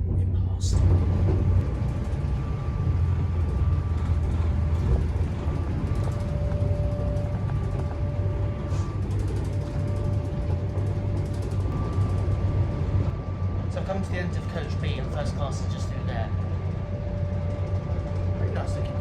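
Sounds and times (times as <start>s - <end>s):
faint whine: 0.0s - 19.0s
train coach low rumble: 0.0s - 19.0s.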